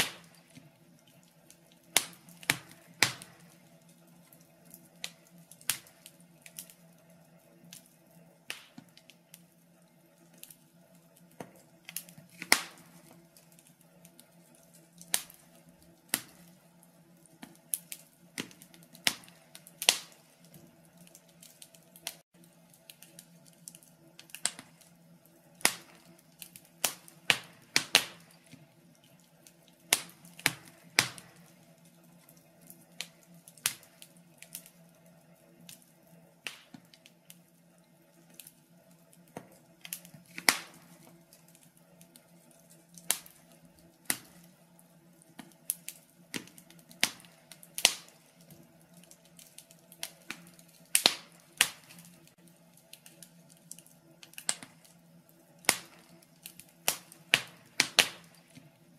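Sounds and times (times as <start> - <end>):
faint steady hum: 0.0 - 58.9
wood fire crackling: 0.0 - 58.9.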